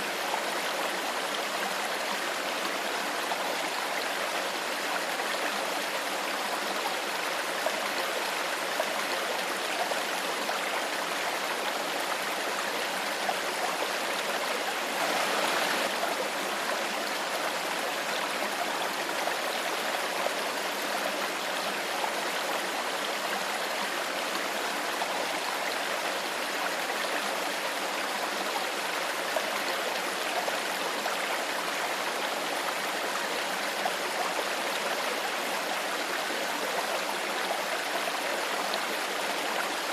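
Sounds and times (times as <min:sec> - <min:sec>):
shallow stream babbling: 0:00.0 - 0:39.9.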